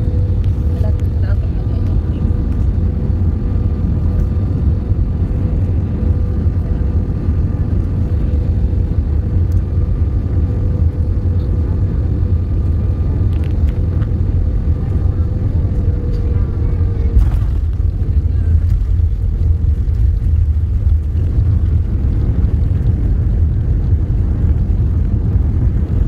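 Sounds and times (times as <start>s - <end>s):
jet engines rumbling in cabin: 0.0s - 26.0s.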